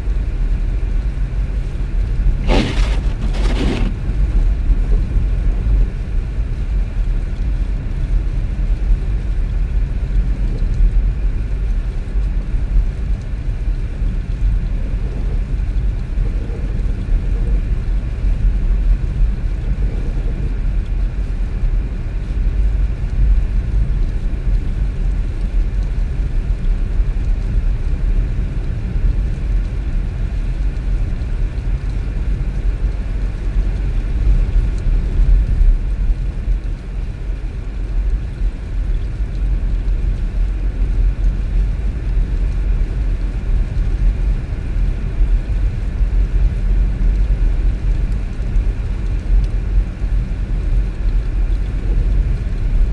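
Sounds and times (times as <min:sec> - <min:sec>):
car engine and tyre rumble: 0:00.0 - 0:52.9.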